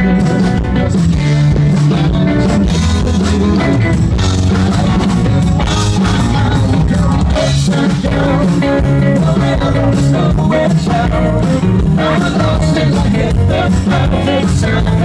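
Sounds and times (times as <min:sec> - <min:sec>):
drum kit: 0:00.0 - 0:15.0
guitar: 0:00.0 - 0:15.0
live rock band playing: 0:00.0 - 0:15.0.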